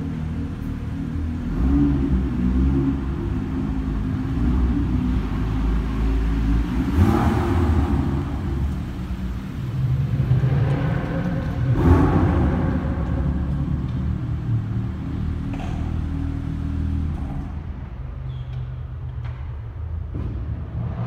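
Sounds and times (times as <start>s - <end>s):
car driving past in car park: 0.6s - 21.0s.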